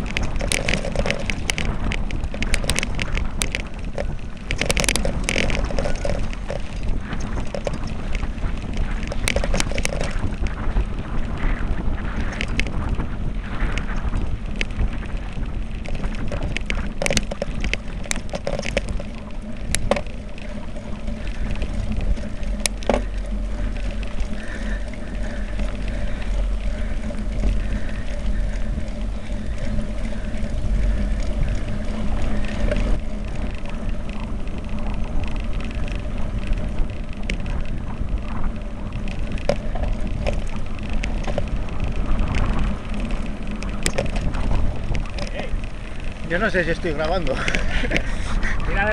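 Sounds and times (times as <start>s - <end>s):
bike rattling: 0.0s - 48.9s
tyre and trail noise: 0.0s - 48.9s
wind rushing over microphone: 0.0s - 48.9s.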